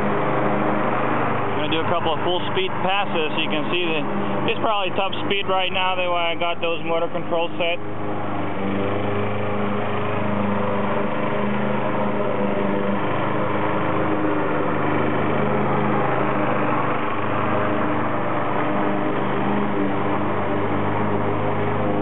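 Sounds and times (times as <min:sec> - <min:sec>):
lawn mower droning: 0:00.0 - 0:22.0.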